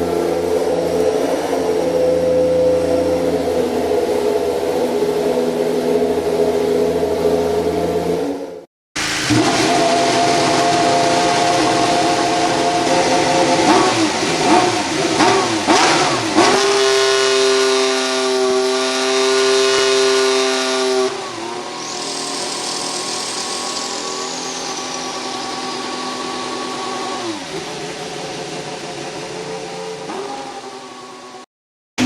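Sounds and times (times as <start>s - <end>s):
racing car engine revving: 0.0s - 31.4s.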